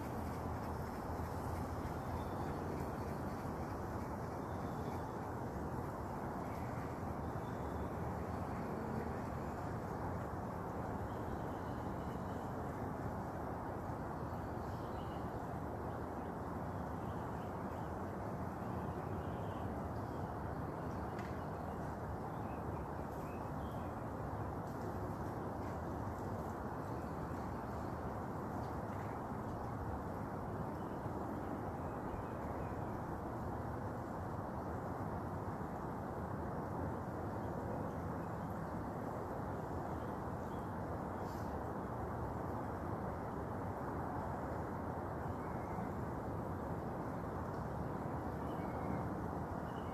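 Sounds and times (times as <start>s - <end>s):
outdoor background noise: 0.0s - 49.9s.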